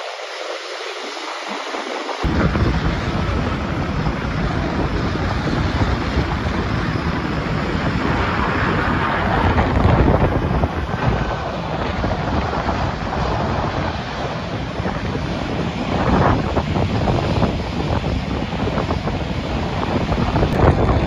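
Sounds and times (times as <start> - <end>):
jet airliner passing overhead: 0.0 - 21.0
wind buffeting microphone: 0.0 - 21.0.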